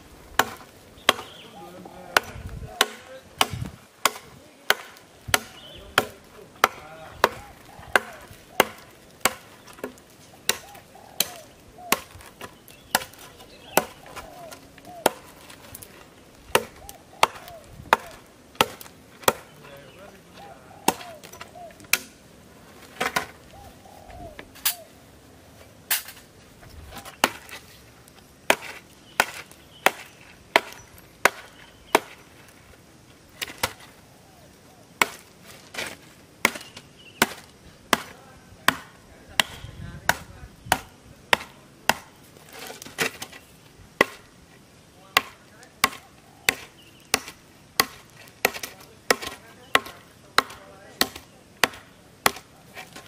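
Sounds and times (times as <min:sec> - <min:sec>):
hatchet chopping wood: 0:00.3 - 0:19.7, 0:20.8 - 0:22.2, 0:27.0 - 0:27.7, 0:28.4 - 0:32.5, 0:33.4 - 0:34.0, 0:35.0 - 0:43.4, 0:44.0 - 0:44.4, 0:45.0 - 0:53.0.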